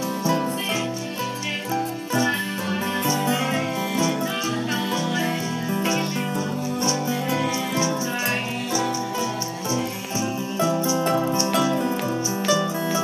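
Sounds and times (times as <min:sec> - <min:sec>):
acoustic guitar folk song: 0:00.0 - 0:13.0.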